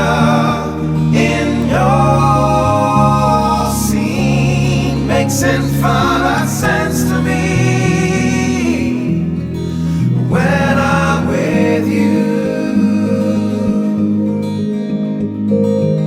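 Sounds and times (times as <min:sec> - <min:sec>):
person singing: 0:00.0 - 0:14.6
song with guitar: 0:00.0 - 0:16.0.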